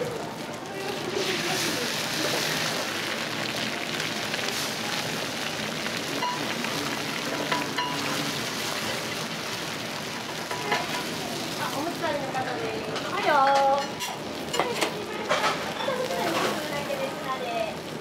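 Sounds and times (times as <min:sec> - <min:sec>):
eggs sizzling on a griddle: 0:00.0 - 0:18.0.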